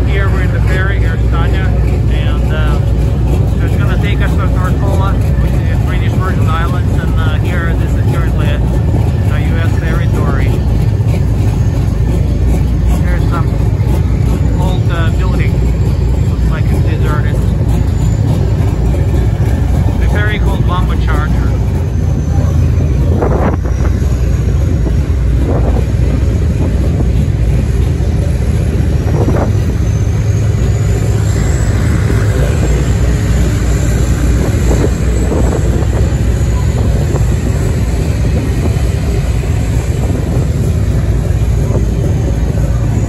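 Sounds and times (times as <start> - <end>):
ferry engines rumbling: 0.0 - 43.0.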